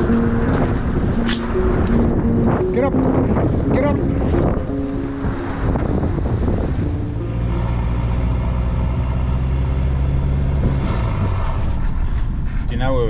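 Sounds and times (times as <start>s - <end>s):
vehicle engine while driving: 0.0s - 12.8s.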